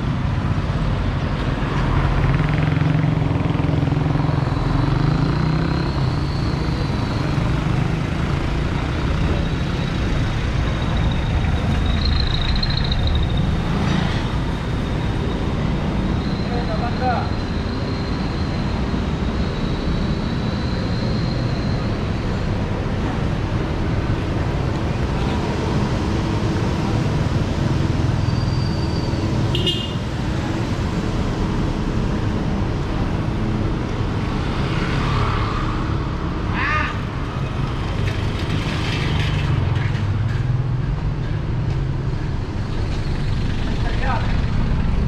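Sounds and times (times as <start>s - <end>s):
low rumble of traffic: 0.0s - 45.0s.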